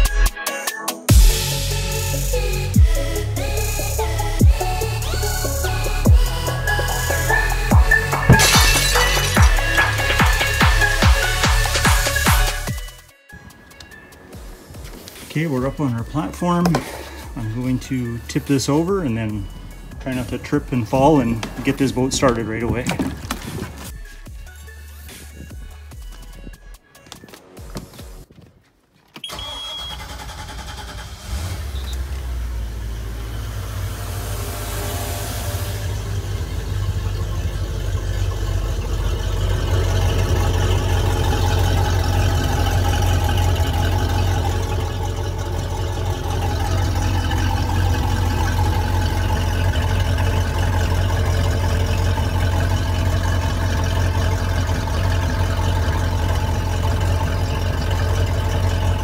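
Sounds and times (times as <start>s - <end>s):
boat engine starting and idling: 1.1s - 13.1s, 14.5s - 26.8s, 29.2s - 59.0s.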